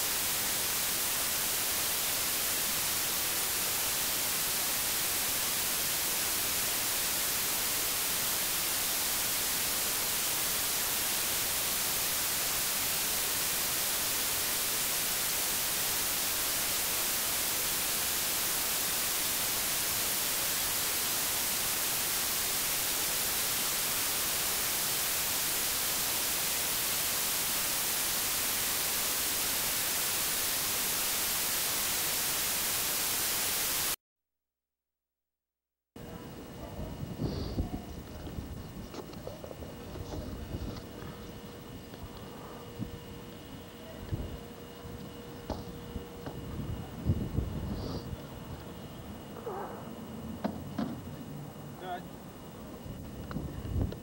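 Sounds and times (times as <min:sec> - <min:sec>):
tape static hiss: 0:00.0 - 0:34.0, 0:36.0 - 0:54.0.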